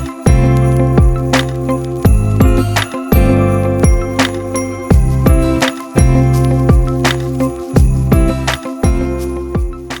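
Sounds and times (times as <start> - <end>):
background music with struck notes: 0.0 - 10.0.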